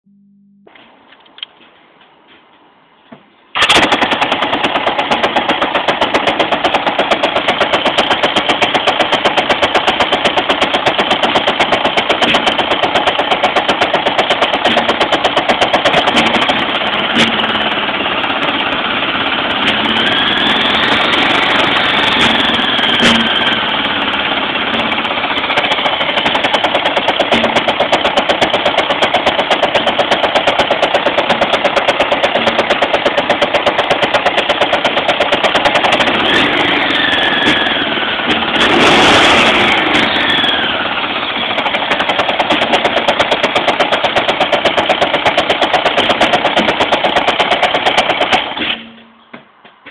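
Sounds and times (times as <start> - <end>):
motorcycle engine idling: 3.6 - 49.4.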